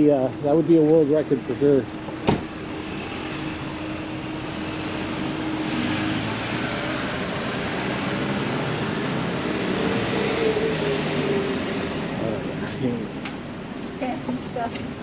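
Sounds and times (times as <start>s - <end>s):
passing vehicle engine rumble: 0.0s - 15.0s.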